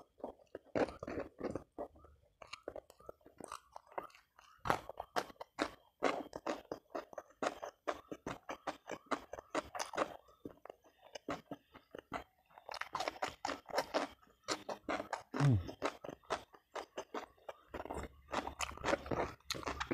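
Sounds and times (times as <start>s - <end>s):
person chewing crunchy food: 0.0s - 19.9s.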